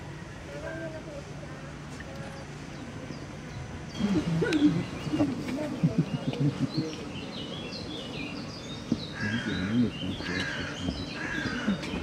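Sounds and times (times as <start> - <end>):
low background murmur: 0.0 - 12.0
birds calling: 1.6 - 12.0.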